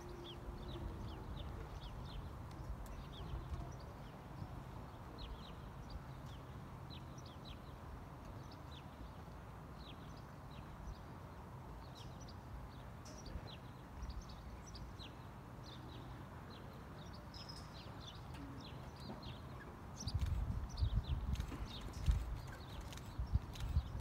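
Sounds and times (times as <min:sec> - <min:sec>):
small birds chirping: 0:00.0 - 0:11.1, 0:11.8 - 0:24.0.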